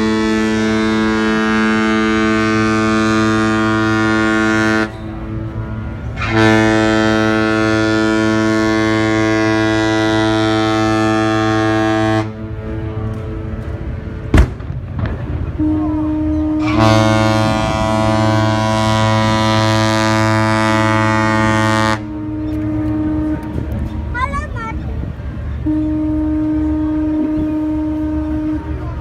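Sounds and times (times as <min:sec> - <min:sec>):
ship horn blasts: 0:00.0 - 0:29.0.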